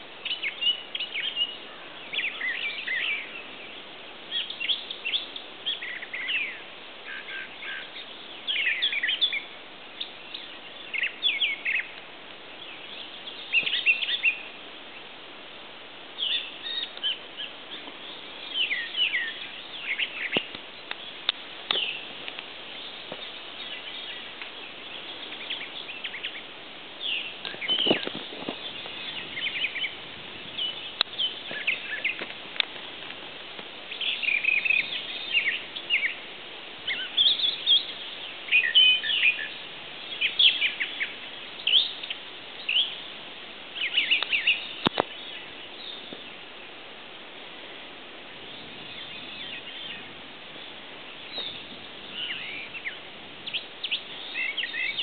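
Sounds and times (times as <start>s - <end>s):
songbirds chirping: 0.0s - 55.0s
steady background hiss: 0.0s - 55.0s.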